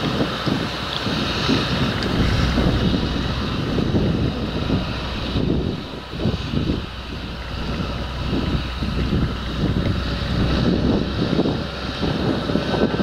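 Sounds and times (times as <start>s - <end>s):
tractor diesel engine: 0.0s - 13.0s
wind buffeting microphone: 0.0s - 13.0s
high whine: 1.8s - 13.0s.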